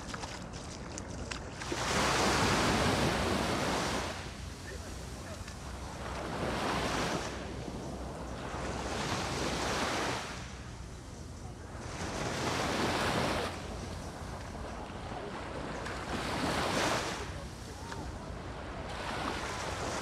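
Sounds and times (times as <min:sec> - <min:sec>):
small waves breaking on sand: 0:00.0 - 0:20.0.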